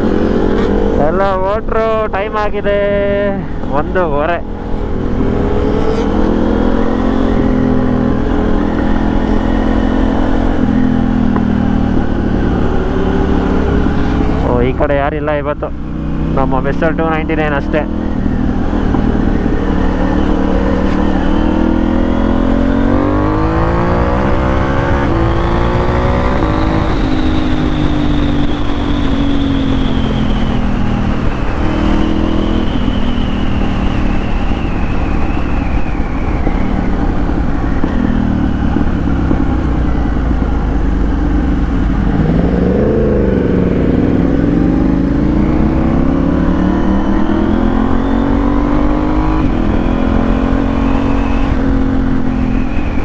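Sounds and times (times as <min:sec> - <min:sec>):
motorcycle engine revving: 0:00.0 - 0:53.0
road and wind noise: 0:00.0 - 0:53.0.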